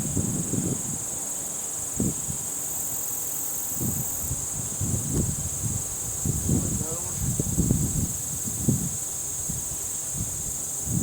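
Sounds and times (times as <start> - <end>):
insects chirring: 0.0 - 11.0
higher-pitched insect chirring: 1.8 - 11.0.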